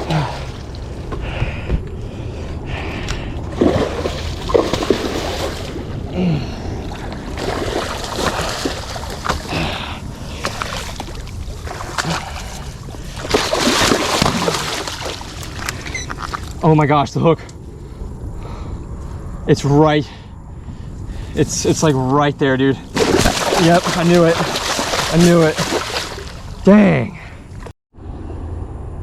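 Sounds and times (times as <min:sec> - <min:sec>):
water splashing and sloshing: 0:00.0 - 0:17.0, 0:21.1 - 0:27.7.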